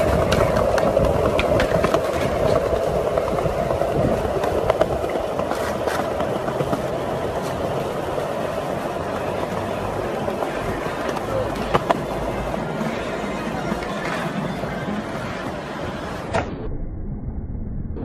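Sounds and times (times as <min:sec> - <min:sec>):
skateboard clicks: 0:00.0 - 0:16.4
skateboard wheels rolling on stone: 0:00.0 - 0:16.4.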